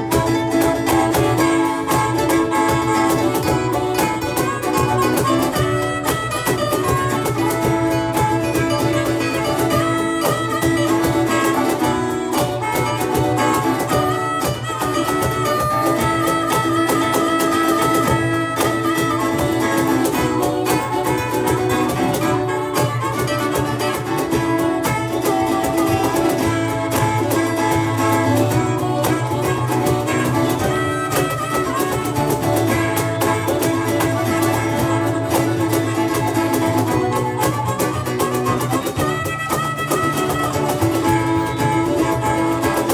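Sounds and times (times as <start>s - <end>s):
acoustic guitar: 0.0s - 42.9s
drums: 0.0s - 42.9s.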